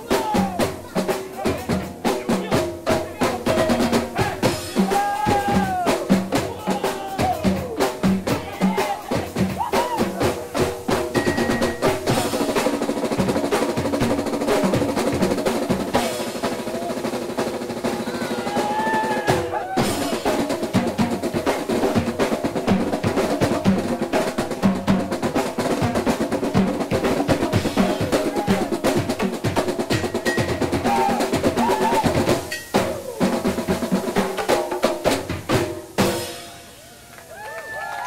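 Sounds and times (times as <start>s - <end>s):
marching drums playing fast: 0.0s - 36.8s.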